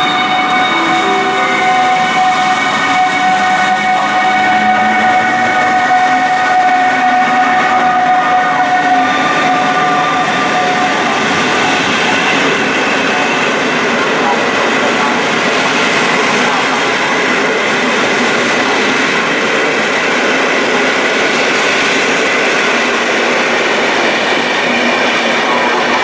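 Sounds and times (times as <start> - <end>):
locomotive high whine: 0.0 - 26.0
train rolling past rumble: 0.0 - 26.0.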